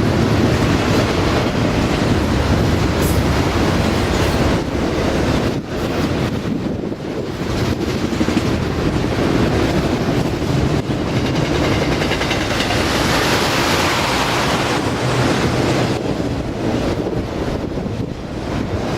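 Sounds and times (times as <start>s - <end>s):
freight train wheels rumbling: 0.0s - 18.9s
wind buffeting microphone: 0.0s - 18.9s.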